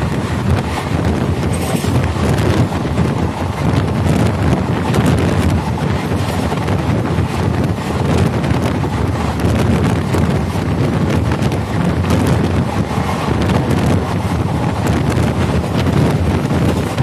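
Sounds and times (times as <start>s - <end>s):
train wheels rumbling on track: 0.0s - 17.0s
wind buffeting microphone: 0.0s - 17.0s.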